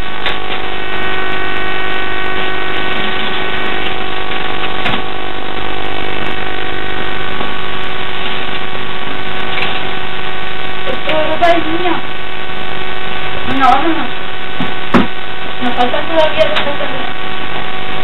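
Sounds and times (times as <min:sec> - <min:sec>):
loud buzzing hum: 0:00.0 - 0:18.0.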